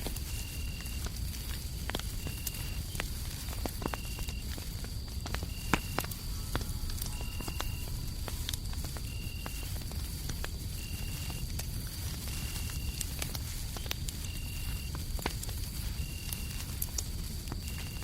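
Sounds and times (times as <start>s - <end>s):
cricket short chirps: 0.0s - 15.0s, 15.6s - 18.0s
cricket trilling: 0.0s - 18.0s
fireplace crackling and popping: 0.0s - 18.0s.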